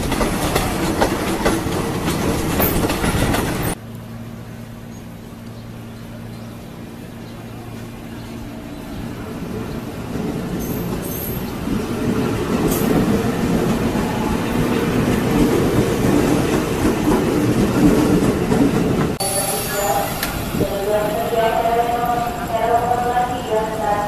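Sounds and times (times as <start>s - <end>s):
electric train passing rumble: 0.0s - 24.0s.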